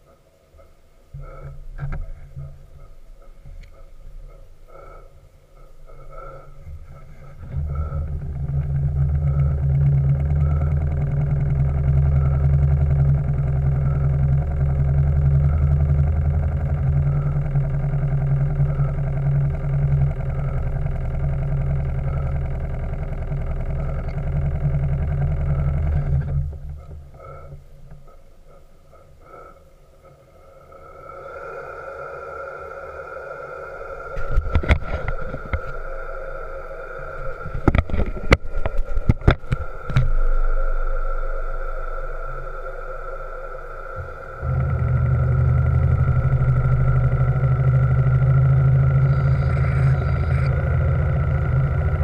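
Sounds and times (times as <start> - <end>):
faint ticking: 0.0 - 52.0
steam engine low rumble: 0.0 - 52.0.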